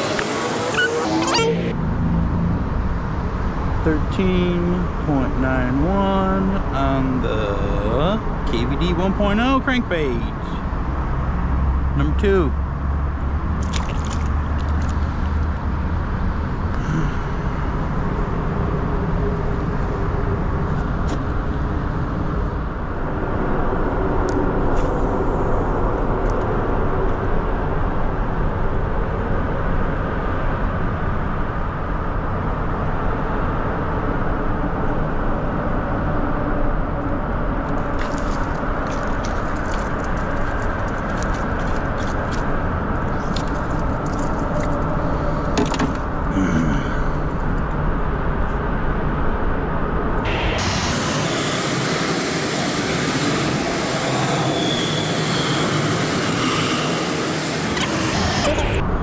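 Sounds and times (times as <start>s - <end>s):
highway traffic rumble overhead: 0.0s - 59.0s.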